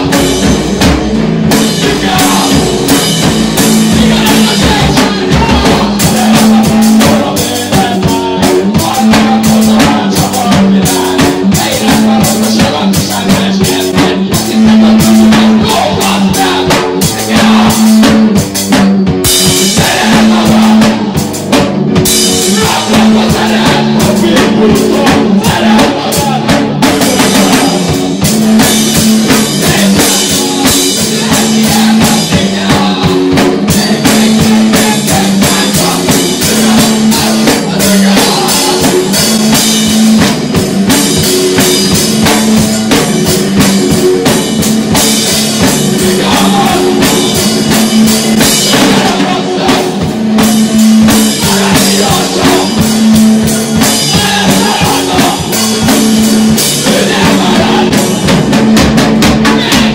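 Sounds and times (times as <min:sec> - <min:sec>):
drum kit hits: 0:00.0 - 0:59.9
person singing: 0:00.0 - 0:59.9
rock band playing: 0:00.0 - 0:59.9.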